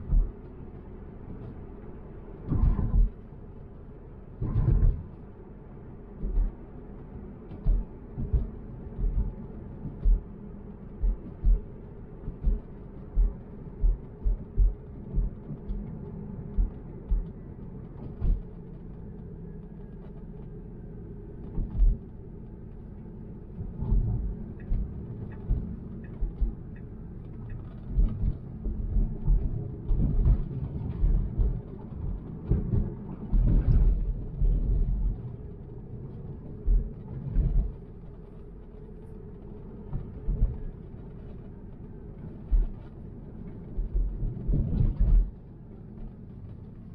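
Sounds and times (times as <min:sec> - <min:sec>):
road noise low rumble: 0:00.0 - 0:46.9.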